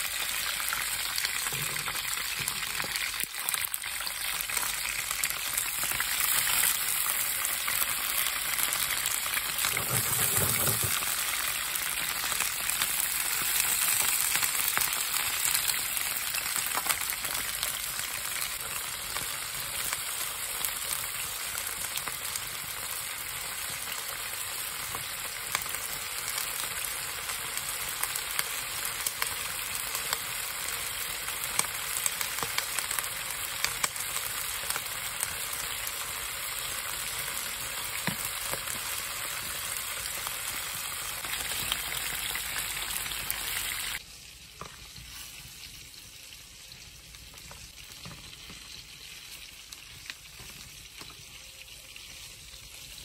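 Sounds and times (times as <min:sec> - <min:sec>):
peppers sizzling in oil: 0:00.0 - 0:53.0.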